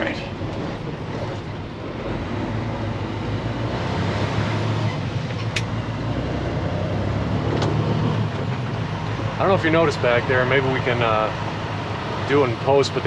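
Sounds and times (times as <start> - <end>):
road noise: 0.0 - 13.0
truck diesel engine running: 0.0 - 13.0.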